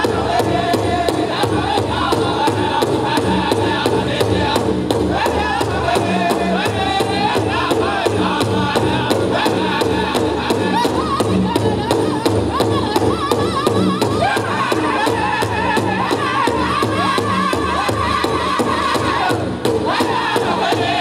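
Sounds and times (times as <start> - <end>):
high-pitched group singing: 0.0 - 21.0
large drum beating fast: 0.0 - 21.0.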